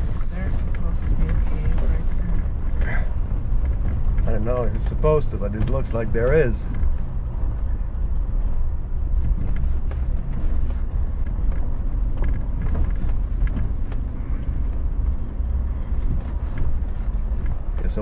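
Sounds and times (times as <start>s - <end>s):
vehicle engine and tyre rumble: 0.0s - 18.0s.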